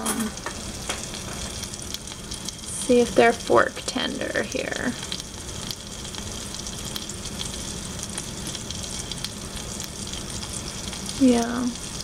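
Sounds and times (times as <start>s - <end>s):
chicken frying in skillet: 0.0s - 12.0s
pot boiling: 0.0s - 12.0s.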